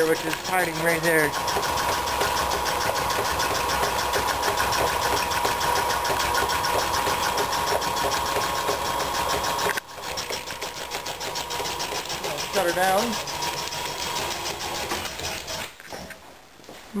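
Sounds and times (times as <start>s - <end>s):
belt-driven air compressor running: 0.0s - 16.2s.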